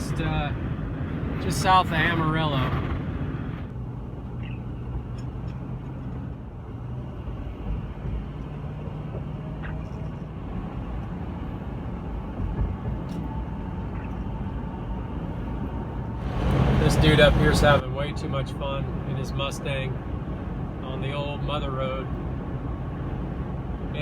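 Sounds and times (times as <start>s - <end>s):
truck engine and road noise: 0.0s - 24.0s.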